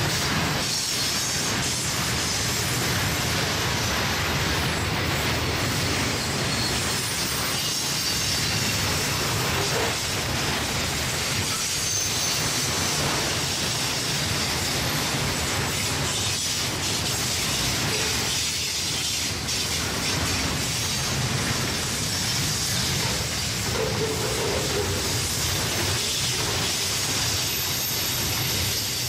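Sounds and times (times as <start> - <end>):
train wheels on rail: 0.0 - 29.0.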